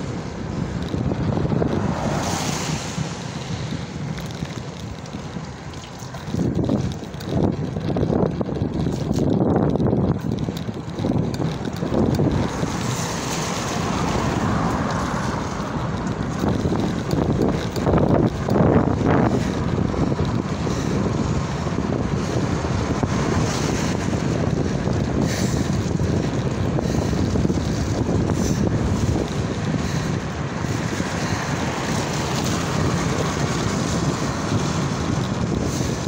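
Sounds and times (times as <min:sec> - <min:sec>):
tyres hissing on wet tarmac: 0:00.0 - 0:07.4, 0:12.1 - 0:36.0
wind on microphone: 0:00.0 - 0:36.0.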